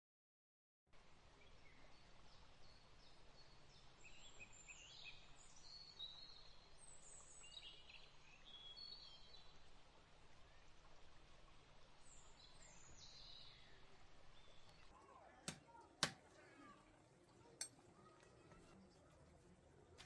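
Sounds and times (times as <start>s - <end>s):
steady outdoor hiss: 0.9s - 20.0s
small birds chirping: 1.1s - 20.0s.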